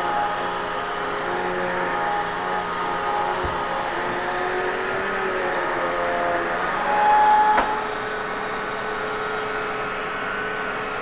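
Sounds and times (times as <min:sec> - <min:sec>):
vacuum cleaner motor whine: 0:00.0 - 0:11.0.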